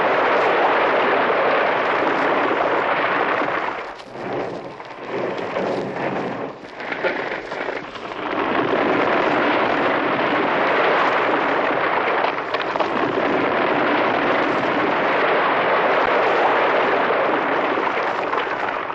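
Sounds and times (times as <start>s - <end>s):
avalanche rushing noise: 0.0s - 18.9s.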